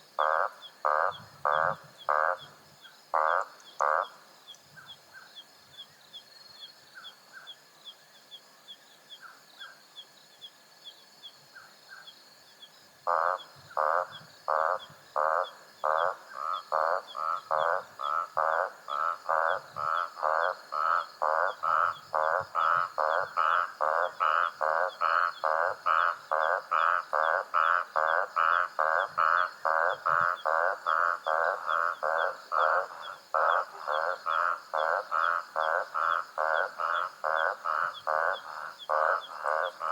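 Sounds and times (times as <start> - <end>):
frog croaking: 0.0 - 5.4, 13.0 - 39.9.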